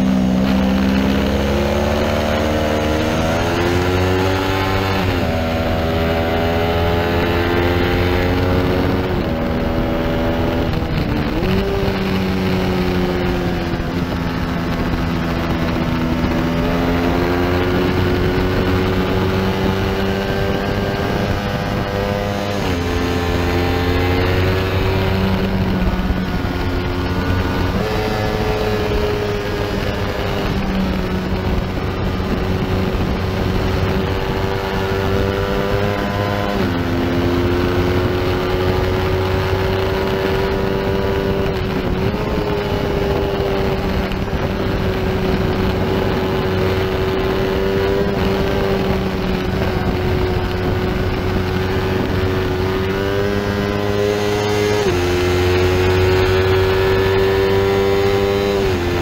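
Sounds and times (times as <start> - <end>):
motorcycle engine at high revs: 0.0 - 59.0
wind rushing: 0.0 - 59.0.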